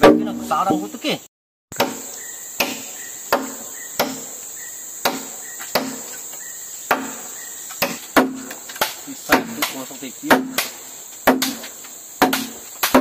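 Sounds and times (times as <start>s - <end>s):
hand tool striking wood: 0.0s - 0.5s, 1.7s - 4.4s, 5.0s - 13.0s
insect chorus droning: 0.1s - 13.0s.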